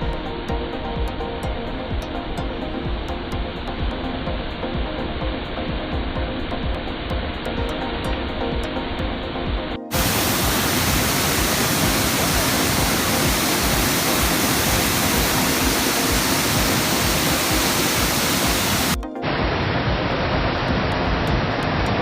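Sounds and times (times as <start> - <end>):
faint background music: 0.0 - 22.0
waterfall rushing: 0.0 - 22.0.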